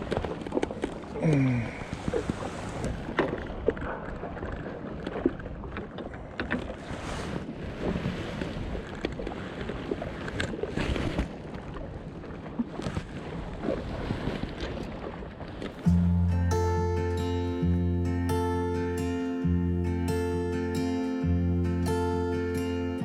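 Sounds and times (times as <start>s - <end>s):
water lapping: 0.0s - 23.0s.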